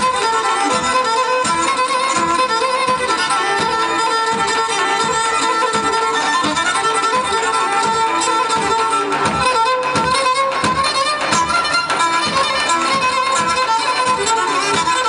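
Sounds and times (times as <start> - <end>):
bowed string melody: 0.0 - 15.0.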